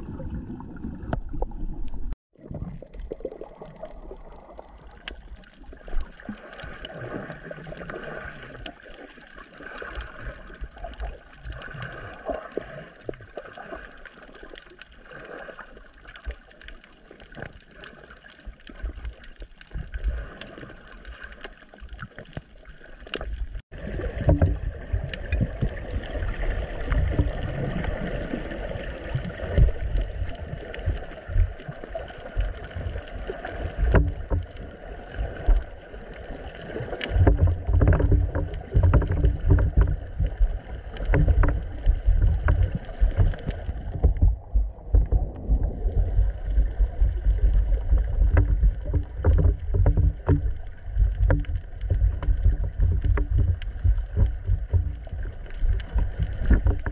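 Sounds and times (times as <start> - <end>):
crackles and clicks: 0.0 - 56.9
low rumble of moving water: 0.0 - 56.9
muffled underwater water noise: 0.0 - 56.9.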